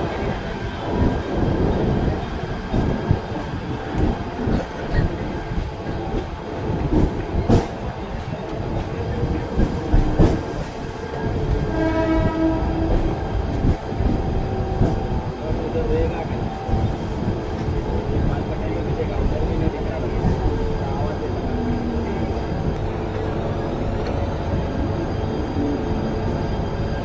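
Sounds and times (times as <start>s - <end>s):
train carriage rumbling: 0.0s - 27.0s.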